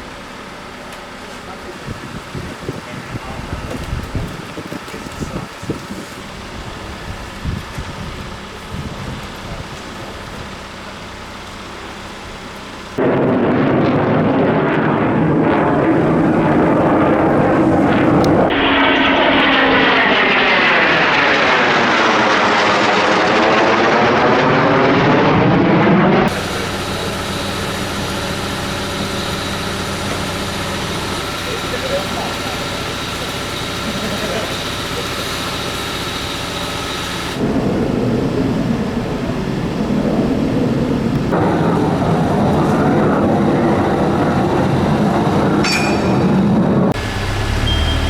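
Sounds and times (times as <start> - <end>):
aircraft passing low overhead: 1.5 - 48.0.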